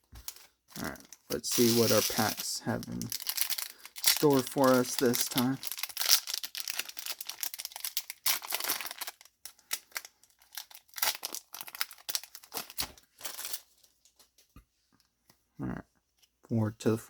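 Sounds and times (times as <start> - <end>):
foil wrapper crinkling and tearing: 0.2 - 14.2.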